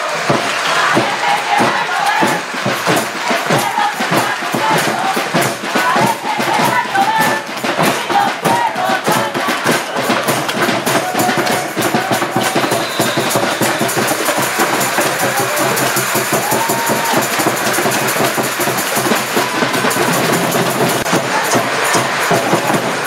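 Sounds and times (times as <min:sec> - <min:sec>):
drums beating: 0:00.0 - 0:23.0
rattles or tambourines shaking: 0:00.0 - 0:23.0.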